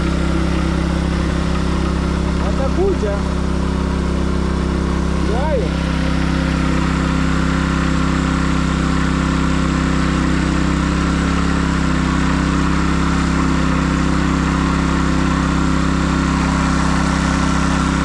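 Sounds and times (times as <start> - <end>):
petrol water pump running: 0.0 - 18.0.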